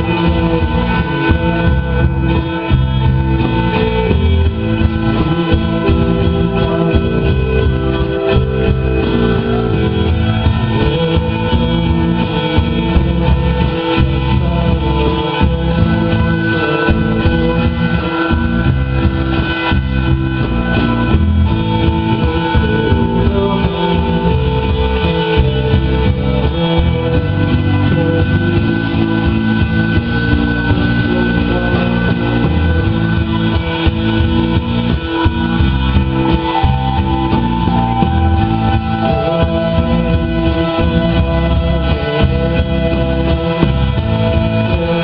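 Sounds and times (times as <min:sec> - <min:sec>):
bass guitar: 0:00.0 - 0:45.0
drums: 0:00.0 - 0:45.0
electric guitar: 0:00.0 - 0:45.0
synthesizer held tones: 0:00.0 - 0:45.0.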